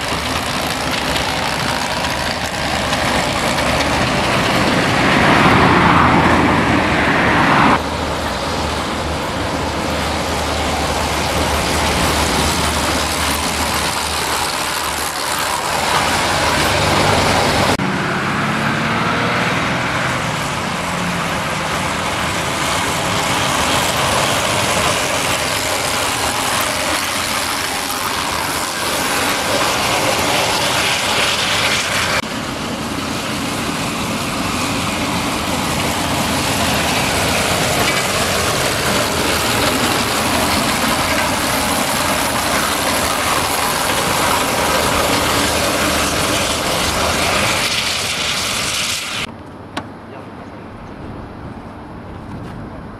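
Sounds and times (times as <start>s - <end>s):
steam trucks driving past: 0.0s - 49.3s.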